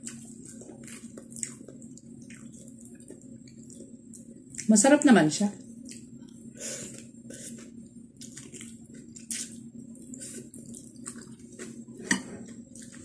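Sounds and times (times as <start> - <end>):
wet chewing and lip-smacking: 0.0 - 4.7, 5.8 - 11.8.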